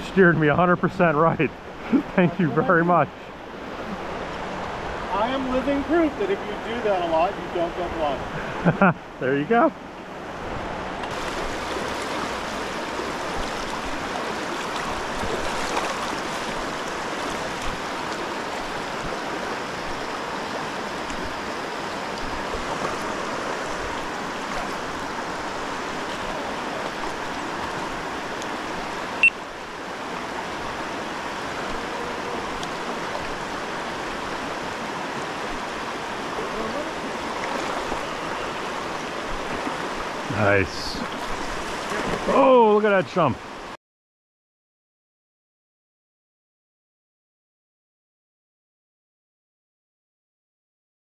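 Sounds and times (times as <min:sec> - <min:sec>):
river current rushing: 0:00.0 - 0:43.8.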